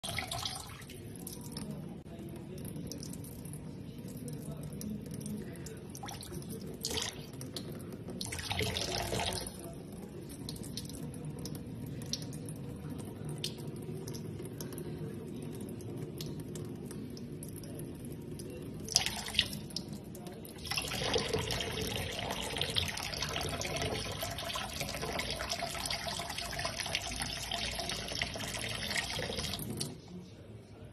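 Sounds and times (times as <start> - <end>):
tap water trickling into sink: 0.0 - 30.0.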